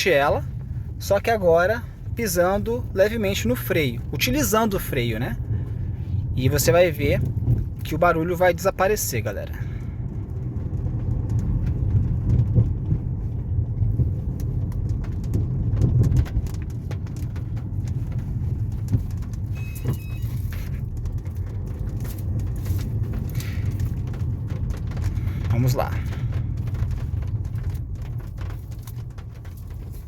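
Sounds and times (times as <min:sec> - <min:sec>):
car engine and tyres rumbling: 0:00.0 - 0:30.0
light knocks and rattles: 0:00.0 - 0:30.0.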